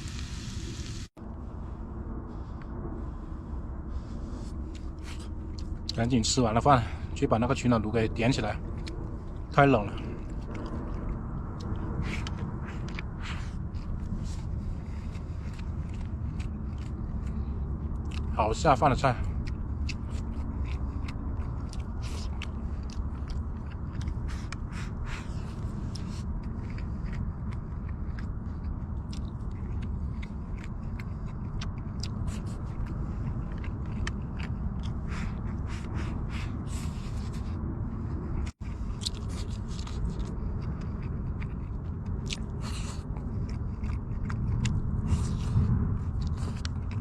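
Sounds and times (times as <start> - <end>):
low rumble: 0.0 - 47.0
person chewing food: 2.3 - 47.0.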